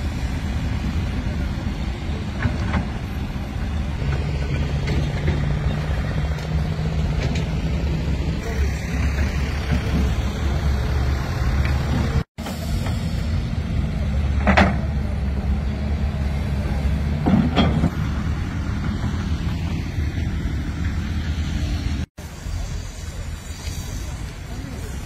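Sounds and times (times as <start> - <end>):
heavy machinery engine rumbling: 0.0 - 25.0.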